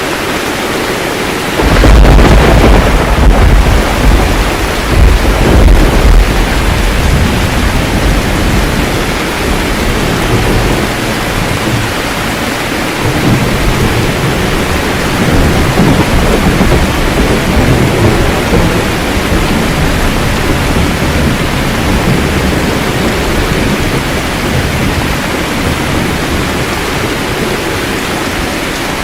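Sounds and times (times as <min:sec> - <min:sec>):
heavy rain: 0:00.0 - 0:29.0
thunder rumbling: 0:00.8 - 0:29.0.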